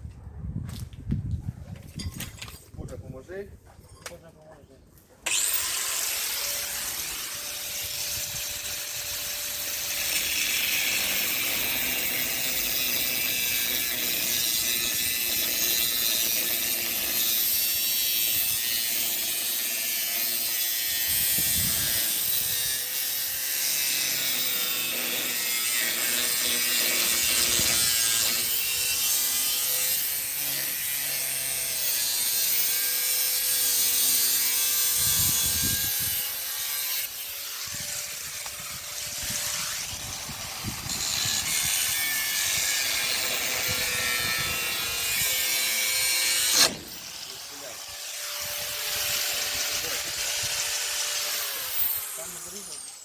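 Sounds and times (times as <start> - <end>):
power tool cutting: 5.2 - 53.0.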